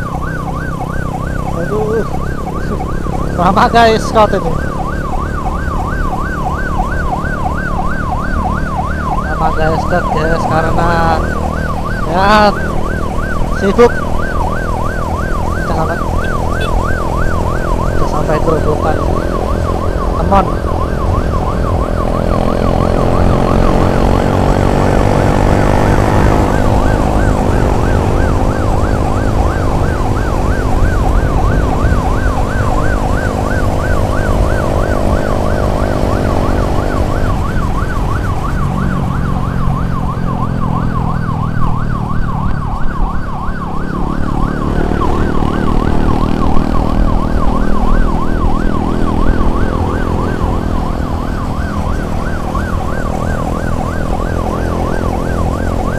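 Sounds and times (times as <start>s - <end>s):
ambulance siren yelp: 0.0s - 55.9s
vehicle engine and road noise: 0.0s - 55.9s.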